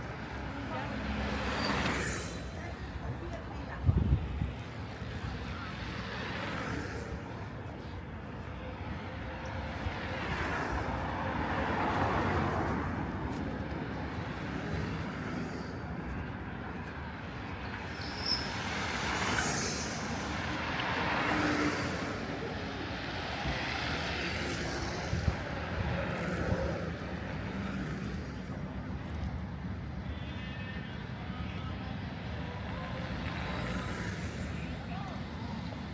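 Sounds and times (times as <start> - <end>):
cars passing: 0.0 - 35.9
steady traffic hum: 0.0 - 35.9.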